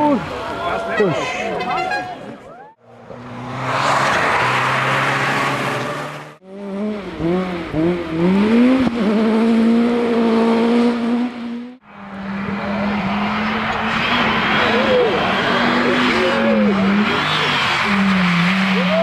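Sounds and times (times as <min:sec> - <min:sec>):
road and tyre noise: 0:00.0 - 0:19.0
rally car engines revving high: 0:02.8 - 0:19.0.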